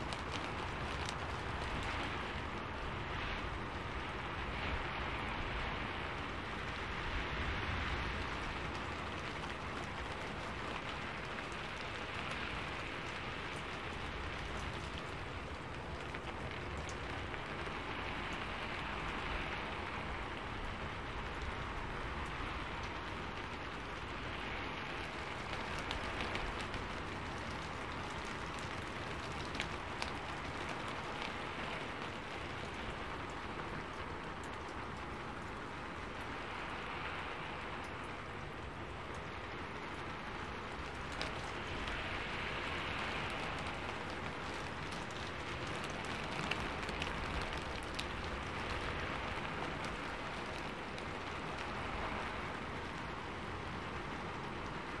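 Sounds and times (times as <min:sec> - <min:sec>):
rain hissing on foliage: 0:00.0 - 0:55.0.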